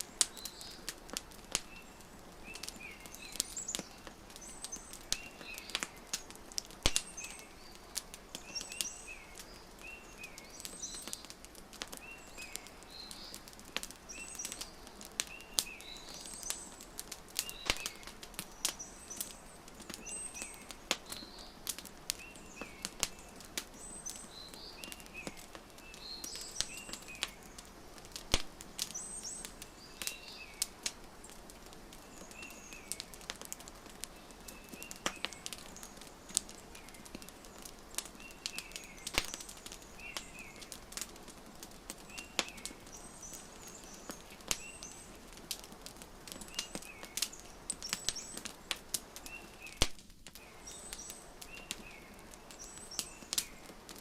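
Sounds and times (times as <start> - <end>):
small birds chirping: 0.0 - 54.0
wood fire crackling and popping: 0.0 - 54.0.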